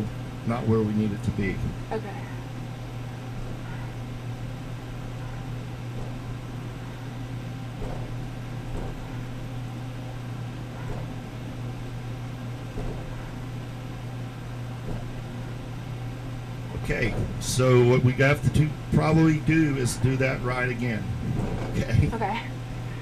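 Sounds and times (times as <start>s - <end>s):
low machine hum with hiss: 0.0s - 23.0s.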